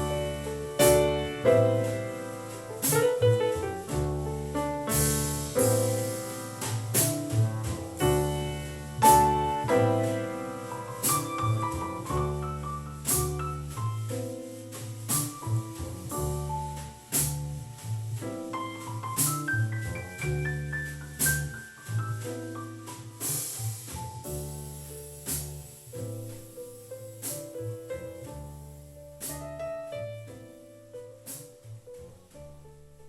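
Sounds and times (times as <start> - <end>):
bass line: 0.0 - 33.0
piano chords: 0.0 - 33.0.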